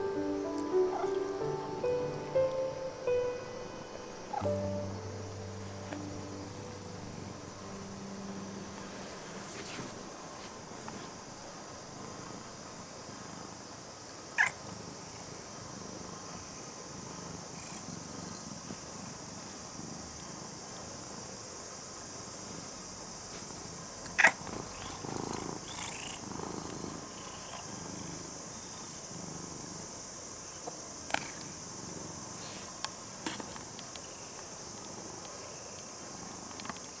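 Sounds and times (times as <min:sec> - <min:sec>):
cat purring: 0:00.0 - 0:13.7, 0:14.3 - 0:21.4, 0:22.2 - 0:33.2.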